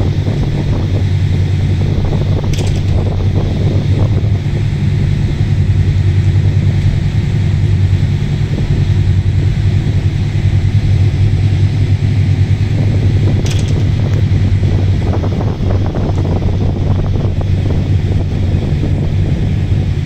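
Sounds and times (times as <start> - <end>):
ferry engines droning: 0.0 - 20.0
wind noise: 0.0 - 20.0.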